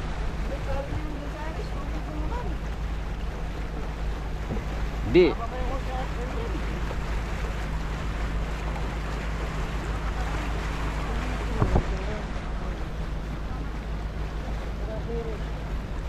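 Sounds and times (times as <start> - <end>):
boat engine running: 0.0 - 16.0
water noise: 0.0 - 16.0
wind: 0.0 - 16.0.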